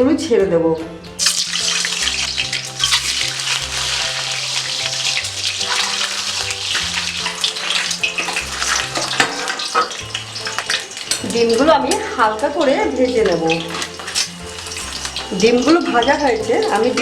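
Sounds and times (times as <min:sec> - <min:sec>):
slow low background music: 0:00.0 - 0:17.0
eggs sizzling in hot oil: 0:01.1 - 0:17.0.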